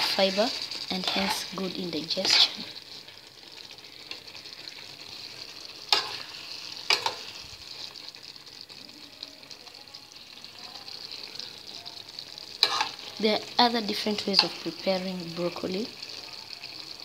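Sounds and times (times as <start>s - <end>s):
vegetables sizzling in pan: 0.0s - 17.0s.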